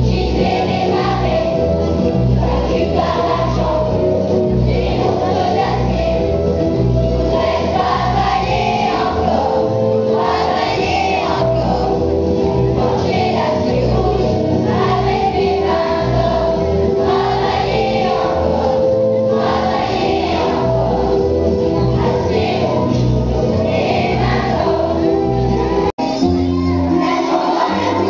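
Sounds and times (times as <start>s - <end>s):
children's choir singing: 0.0s - 28.0s
instrumental accompaniment with bass: 0.0s - 28.0s.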